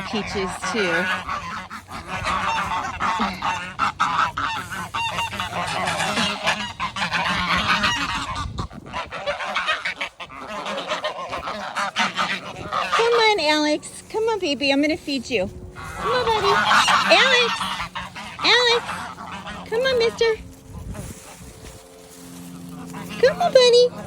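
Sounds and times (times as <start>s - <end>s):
geese honking and chattering: 0.0s - 24.0s.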